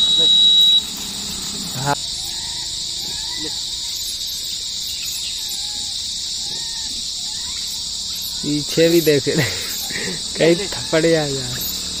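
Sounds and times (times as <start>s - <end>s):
faint rising and falling calls: 0.0s - 12.0s
high-pitched insect drone: 0.0s - 12.0s.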